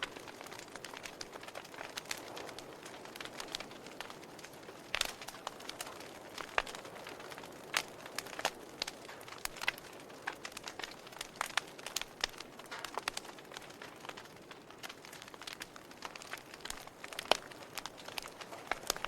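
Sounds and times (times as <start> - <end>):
soft fire hiss: 0.0 - 19.0
wood fire crackling and popping: 0.0 - 19.0.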